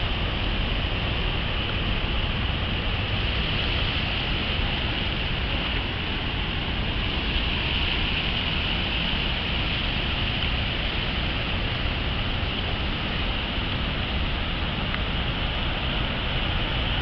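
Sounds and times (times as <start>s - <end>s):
tyres hissing on wet road: 0.0s - 17.0s
wind on microphone: 0.0s - 17.0s.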